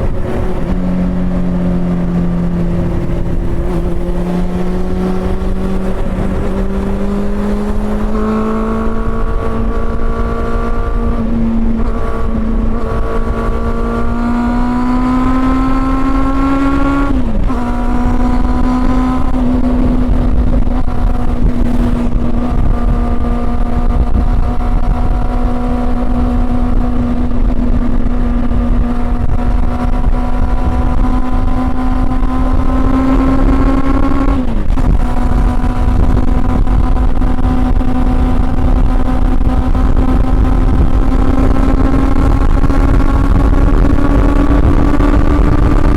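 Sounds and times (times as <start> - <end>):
motorcycle engine accelerating: 0.0 - 45.9
wind and road noise: 0.0 - 45.9.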